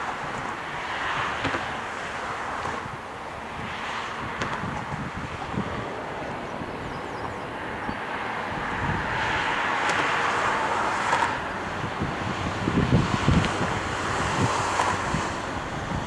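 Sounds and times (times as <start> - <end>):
distant jet rush: 0.0 - 16.0
wind buffeting microphone: 0.0 - 16.0.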